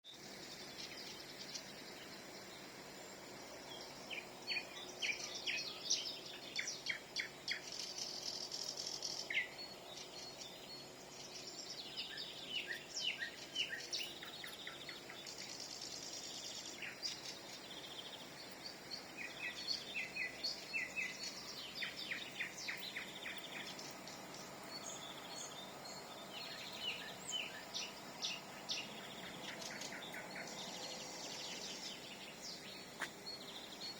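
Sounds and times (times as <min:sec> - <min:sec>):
faint background hiss: 0:00.1 - 0:33.9
nightingale singing: 0:00.1 - 0:33.9.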